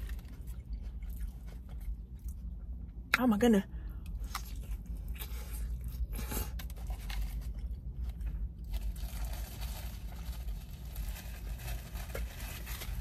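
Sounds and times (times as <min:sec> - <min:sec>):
wet crunching of lettuce: 0:00.0 - 0:02.8, 0:04.0 - 0:13.0.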